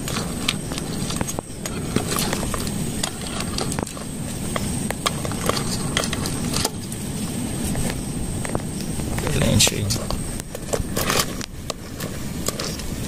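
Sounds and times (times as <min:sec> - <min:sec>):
food crackling and popping in pot: 0:00.0 - 0:13.0
gas burner rumble: 0:00.0 - 0:13.0.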